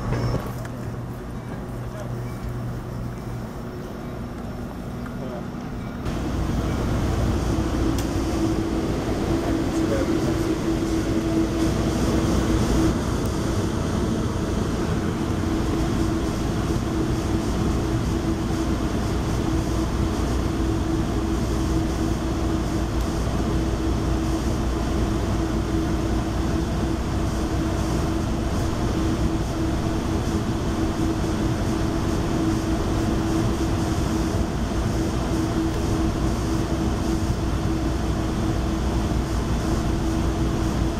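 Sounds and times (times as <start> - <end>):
constant low hum: 0.0 - 40.9
train coach interior rumble: 0.0 - 40.9.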